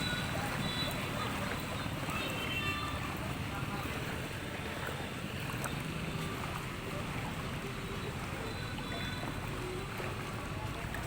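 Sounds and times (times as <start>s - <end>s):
boat engine low rumble: 0.0s - 11.0s
water washing: 0.0s - 11.0s.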